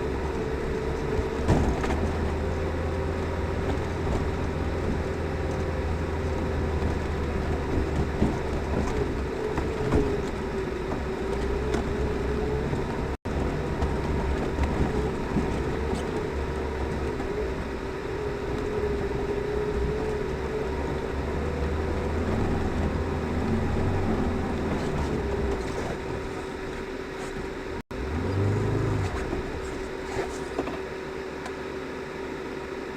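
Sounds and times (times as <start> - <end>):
car engine and drivetrain hum: 0.0 - 32.9.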